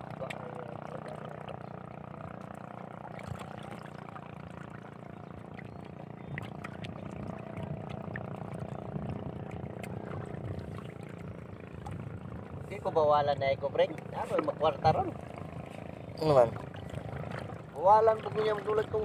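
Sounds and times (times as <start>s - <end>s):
low even hum: 0.0s - 19.0s
water noise: 0.0s - 19.0s
wind: 0.0s - 19.0s.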